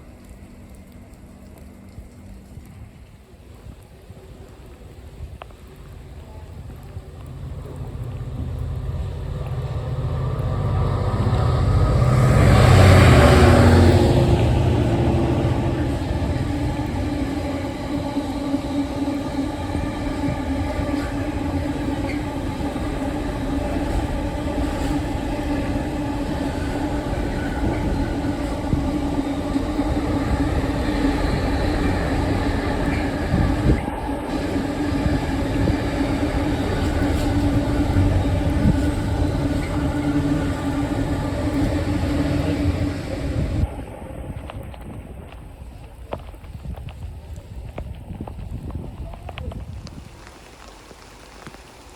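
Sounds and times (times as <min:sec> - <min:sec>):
diesel train engine: 0:00.0 - 0:51.9
train rumbling on rails: 0:00.0 - 0:51.9.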